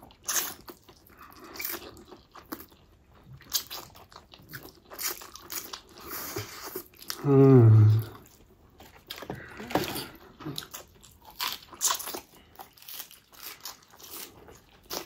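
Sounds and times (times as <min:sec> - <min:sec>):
noodles slurped and chewed: 0:00.0 - 0:15.0.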